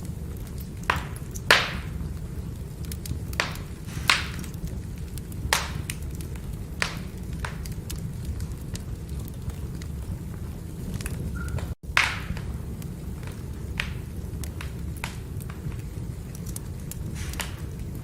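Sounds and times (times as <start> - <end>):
firewood crackling and popping: 0.0 - 18.0
low steady rumble: 0.0 - 18.0.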